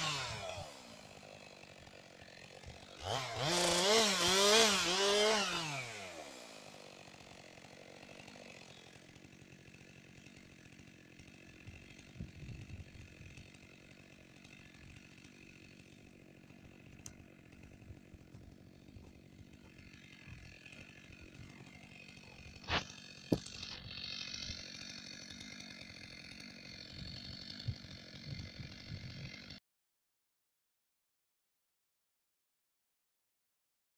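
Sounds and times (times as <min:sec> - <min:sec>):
chainsaw engine winding down: 0:00.0 - 0:29.6.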